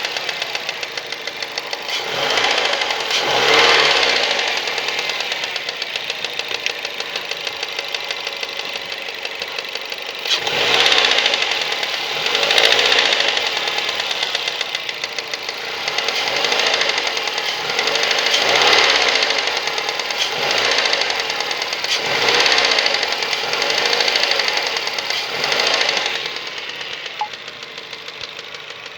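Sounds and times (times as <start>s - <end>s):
car engine knocking while revving: 0.0s - 28.9s.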